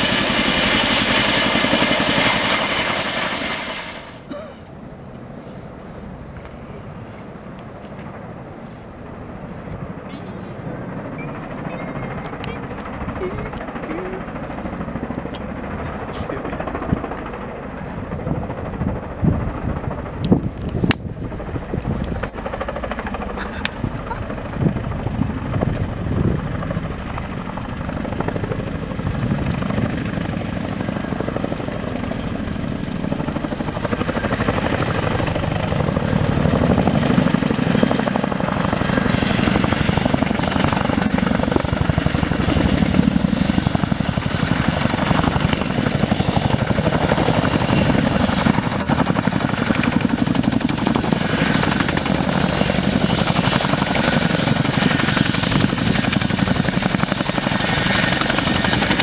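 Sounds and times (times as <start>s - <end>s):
helicopter engine whine: 0.0s - 59.0s
helicopter rotors beating: 0.0s - 59.0s.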